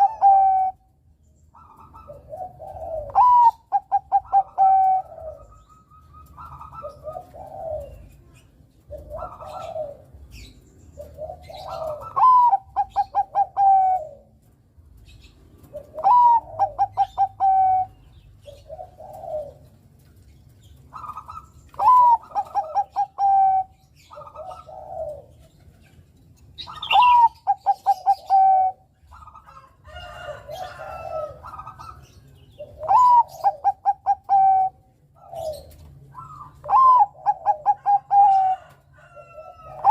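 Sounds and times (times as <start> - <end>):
dove singing: 0.0 - 39.9.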